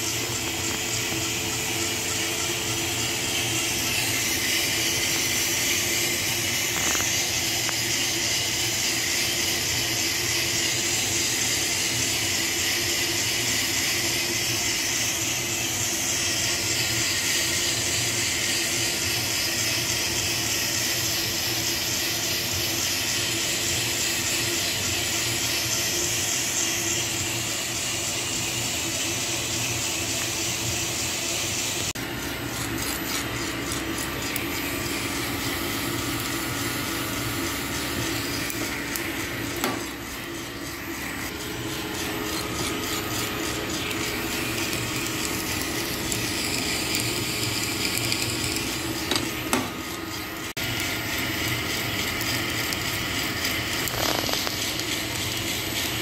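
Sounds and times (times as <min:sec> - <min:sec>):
beans clicking in drum: 0:00.0 - 0:56.0
coffee roaster hissing and humming: 0:00.0 - 0:56.0.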